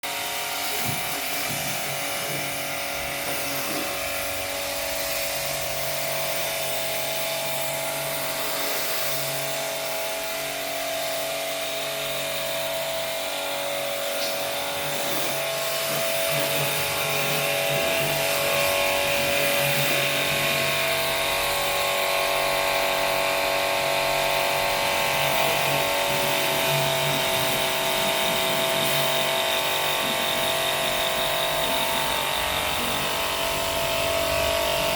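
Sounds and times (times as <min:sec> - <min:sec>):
small electric motor whining: 0:00.0 - 0:34.9.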